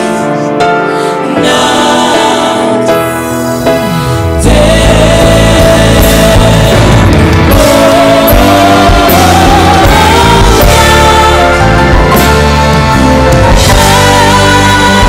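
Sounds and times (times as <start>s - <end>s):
gospel band playing: 0.0s - 15.0s.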